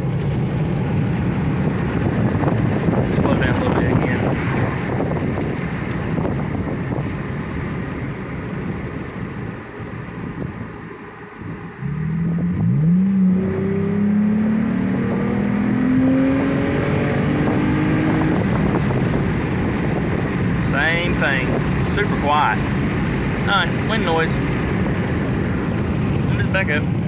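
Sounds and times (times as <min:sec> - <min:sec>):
engine accelerating hard: 0:00.0 - 0:27.0
wind and road noise: 0:00.0 - 0:27.0.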